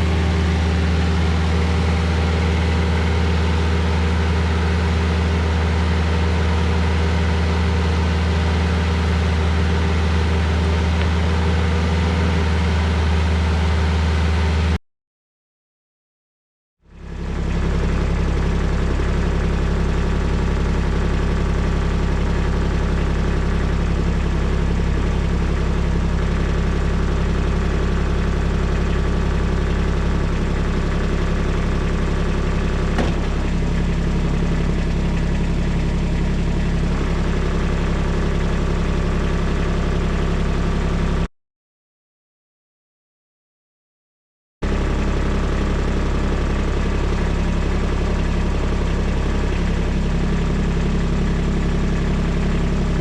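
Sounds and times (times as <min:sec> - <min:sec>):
excavator diesel engine: 0:00.0 - 0:14.8, 0:16.9 - 0:41.3, 0:44.6 - 0:53.0.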